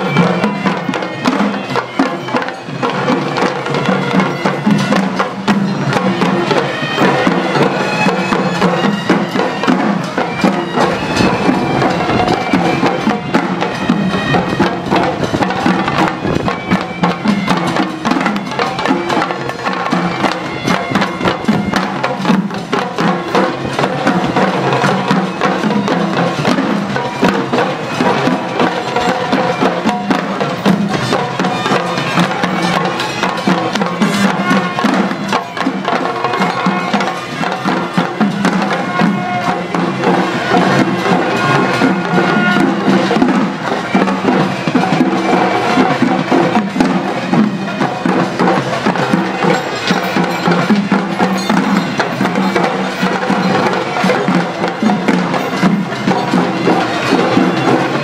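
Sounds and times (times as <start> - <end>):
shrill reed pipe melody: 0.0 - 58.0.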